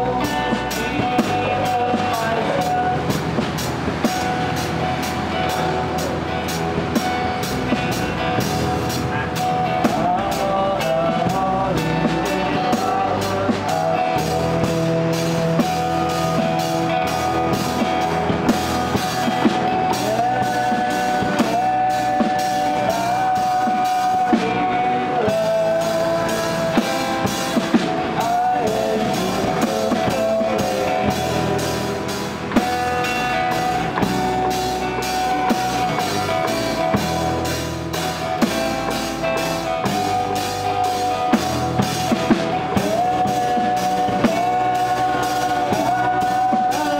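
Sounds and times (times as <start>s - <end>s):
acoustic guitars: 0.0s - 46.9s
drum kit and cymbal: 0.0s - 46.9s.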